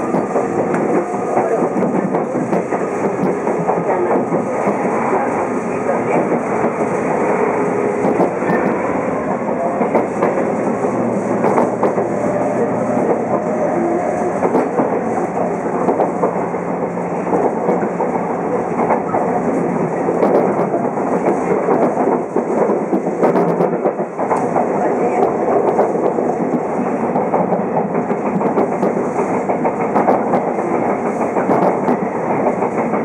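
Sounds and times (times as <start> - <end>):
track clicks and clatter: 0.0 - 33.0
train wheels rumbling on rails: 0.0 - 33.0.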